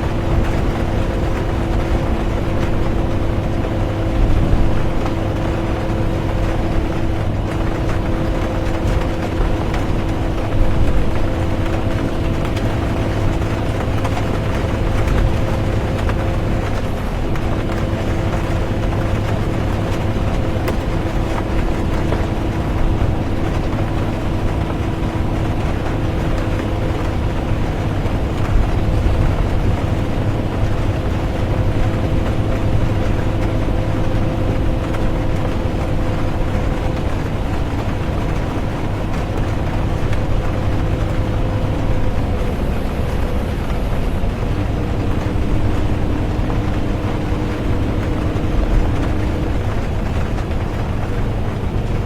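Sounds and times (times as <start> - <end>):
bus engine drone: 0.0 - 52.0
low road rumble: 0.0 - 52.0.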